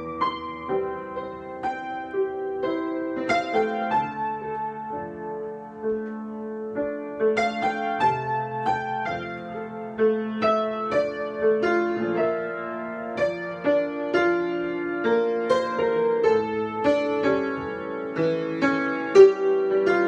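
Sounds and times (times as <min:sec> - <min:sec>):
solo piano improvisation: 0:00.0 - 0:20.0.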